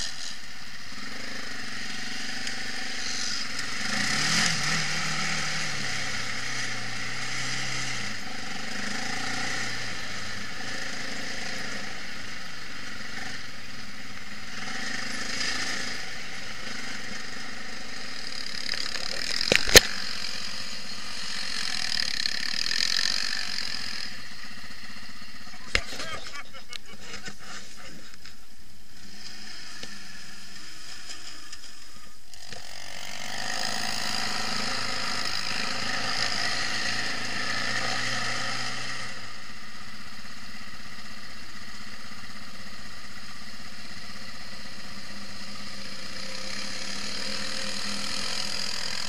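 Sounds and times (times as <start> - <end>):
quad bike engine running: 0.0 - 49.0.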